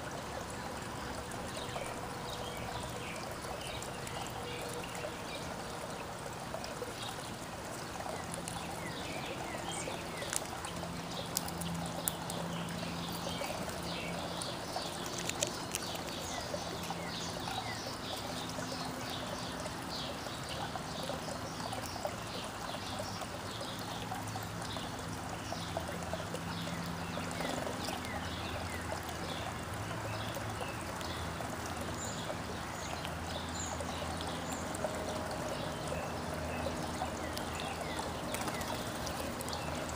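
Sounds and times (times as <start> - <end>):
small birds chirping: 0.0 - 39.9
trickle of running water: 0.0 - 39.9.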